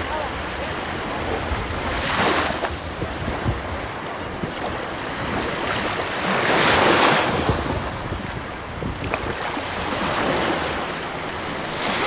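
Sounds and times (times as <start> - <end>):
sea surf washing onto beach: 0.0 - 12.0
wind buffeting microphone: 0.0 - 12.0.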